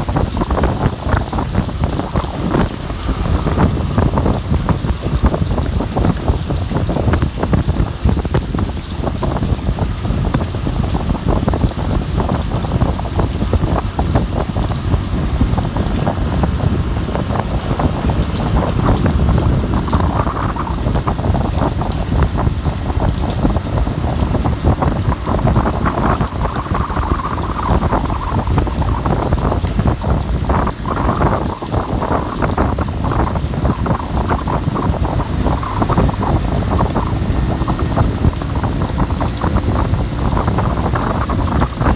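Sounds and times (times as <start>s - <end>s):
rain: 0.0s - 41.9s
wind buffeting microphone: 0.0s - 41.9s.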